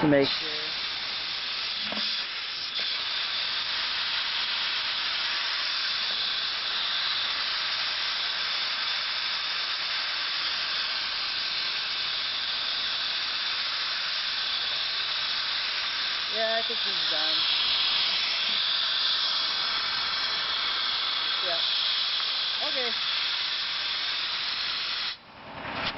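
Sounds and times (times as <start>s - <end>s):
gas hissing steadily: 0.0s - 25.9s.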